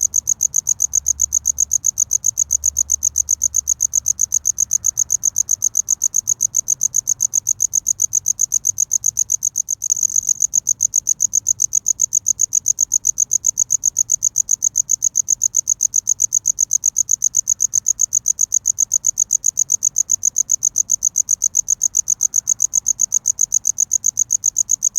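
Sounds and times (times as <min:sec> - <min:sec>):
cricket chirping: 0:00.0 - 0:24.9.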